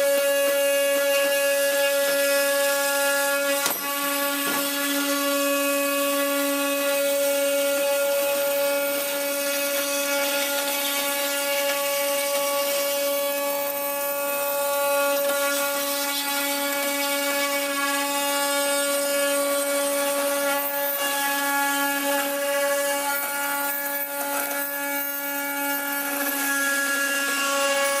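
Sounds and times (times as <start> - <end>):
router spindle whine: 0.0 - 28.0.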